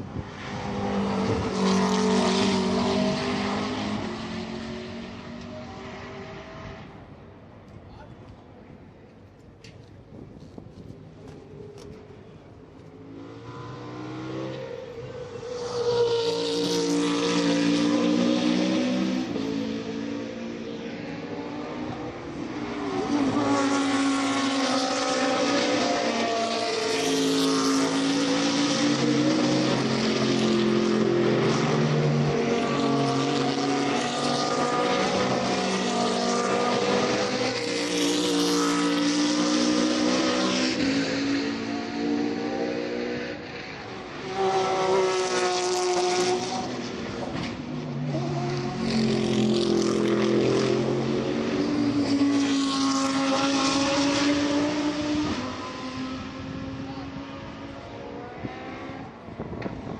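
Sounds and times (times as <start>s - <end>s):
race cars passing at speed: 0.0s - 59.9s.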